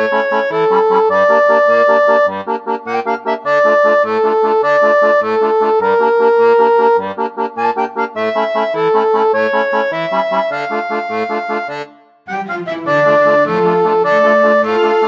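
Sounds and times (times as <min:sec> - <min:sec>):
bouncy background music: 0:00.0 - 0:15.0.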